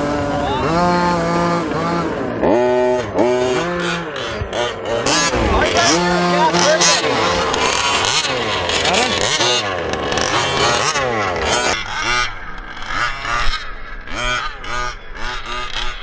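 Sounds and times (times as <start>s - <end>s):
engine throttle blips: 0.0s - 16.0s
small engine revving hard: 0.0s - 16.0s.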